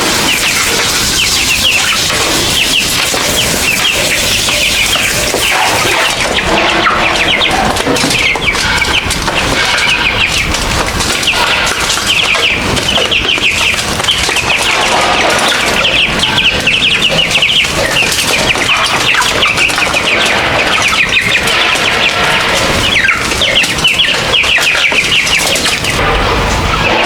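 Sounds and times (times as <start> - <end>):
chickens peeping: 0.0 - 27.0
constant rustling: 0.0 - 27.0.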